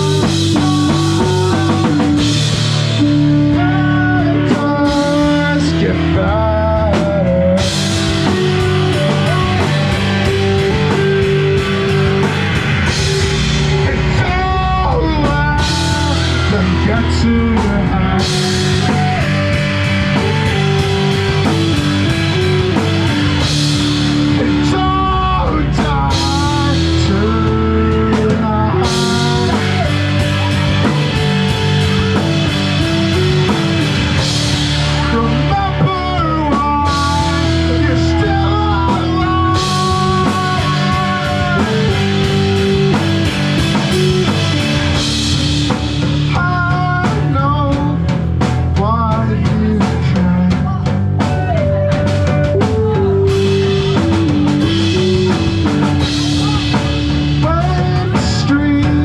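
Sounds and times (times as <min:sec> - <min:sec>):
drum kit: 0:00.0 - 0:59.0
guitar: 0:00.0 - 0:59.0
person singing: 0:00.0 - 0:59.0.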